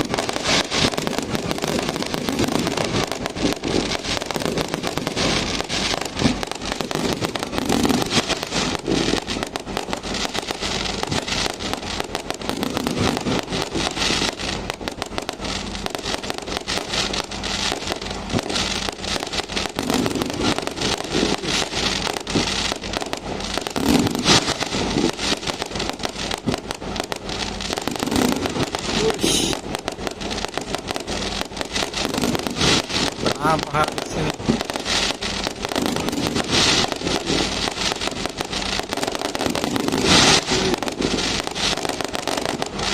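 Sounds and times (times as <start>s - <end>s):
dense firecracker crackle: 0.0s - 42.9s
loud firework bangs: 0.0s - 42.9s.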